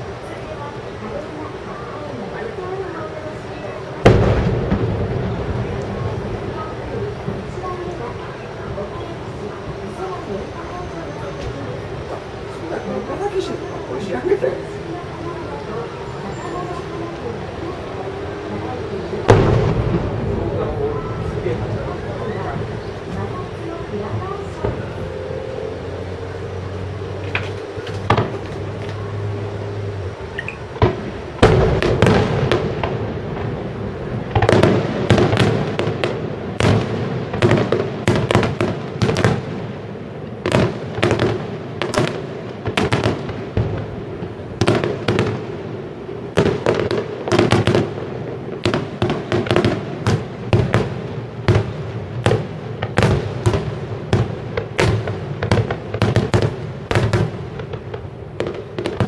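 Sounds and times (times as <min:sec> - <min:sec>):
background noise: 0:00.0 - 0:59.0.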